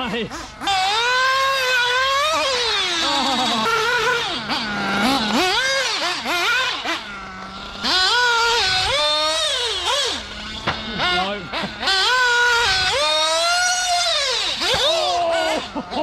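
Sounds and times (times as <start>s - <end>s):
model buggy engine revving: 0.0s - 16.0s.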